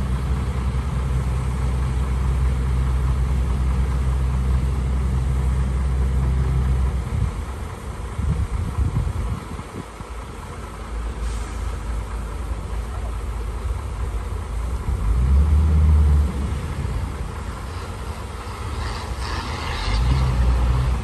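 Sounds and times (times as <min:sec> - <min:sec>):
diesel engine low rumble: 0:00.0 - 0:21.0.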